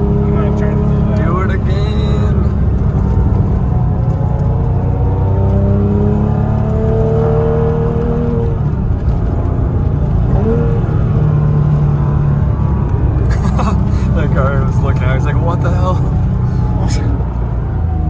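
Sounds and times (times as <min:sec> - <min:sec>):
car engine revving: 0:00.0 - 0:18.0
road noise: 0:00.0 - 0:18.0.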